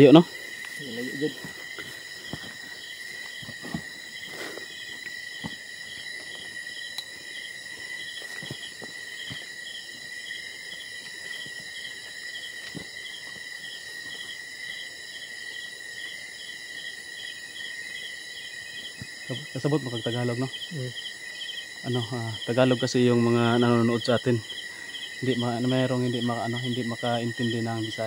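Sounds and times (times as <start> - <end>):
insect chirping in pulses: 0.0 - 28.0
insects trilling: 0.0 - 28.0.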